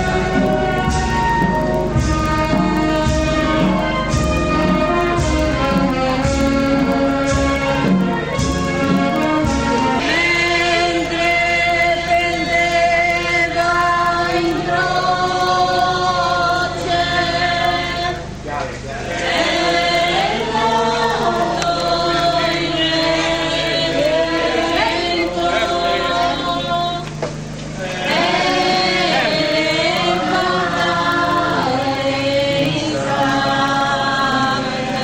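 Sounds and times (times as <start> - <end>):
group singing slow chant: 0.0 - 35.0.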